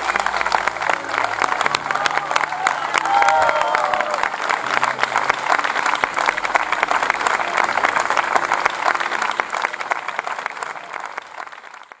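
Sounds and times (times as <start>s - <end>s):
hands clapping: 0.0s - 12.0s.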